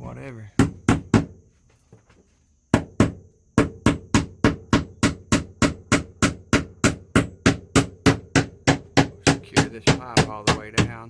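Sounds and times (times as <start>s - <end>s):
hammer striking nail into wood: 0.6s - 1.4s, 2.7s - 11.0s.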